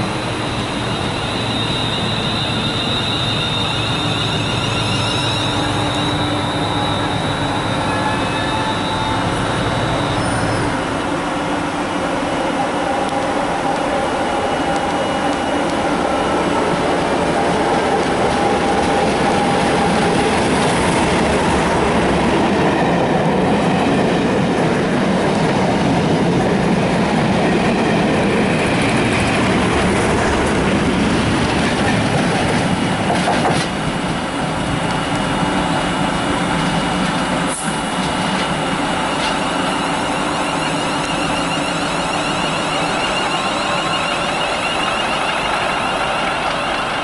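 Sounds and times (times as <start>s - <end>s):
diesel locomotive engines: 0.0s - 47.0s.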